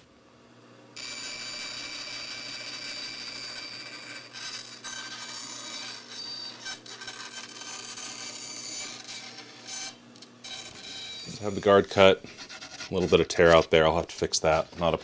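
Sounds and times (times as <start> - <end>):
bandsaw cutting plywood: 1.0 - 15.0.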